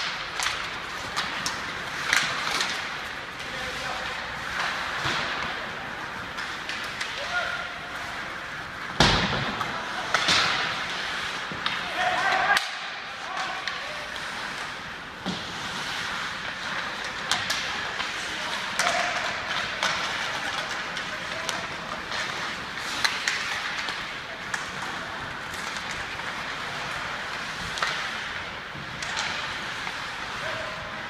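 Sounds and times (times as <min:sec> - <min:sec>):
hockey sticks and puck clacking: 0:00.0 - 0:31.0
skates scraping on ice: 0:00.0 - 0:31.0.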